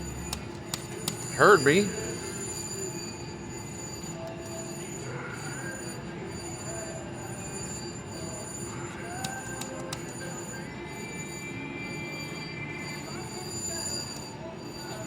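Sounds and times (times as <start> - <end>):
beeping jingles: 0.0 - 15.0
slot machine electronic tones: 0.0 - 15.0.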